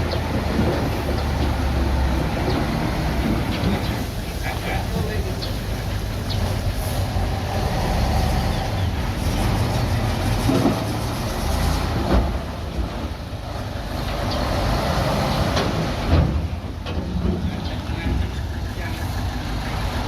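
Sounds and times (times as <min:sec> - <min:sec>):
bulldozer diesel engine: 0:00.0 - 0:20.0.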